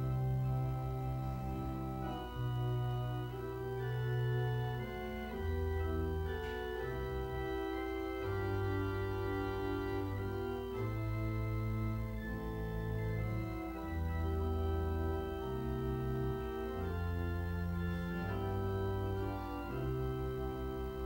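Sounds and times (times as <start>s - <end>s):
church organ playing chords: 0.0s - 21.0s.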